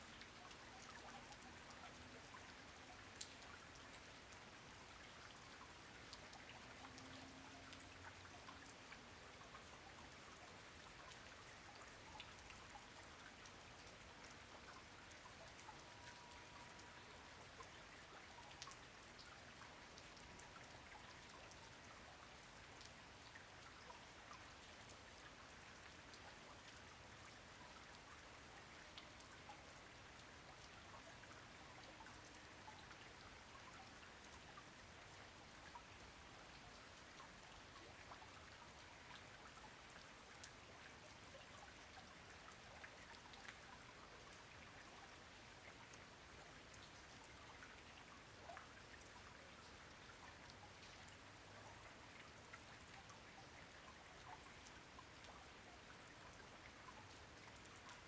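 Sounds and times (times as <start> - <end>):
faint steady rain: 0.0 - 58.0.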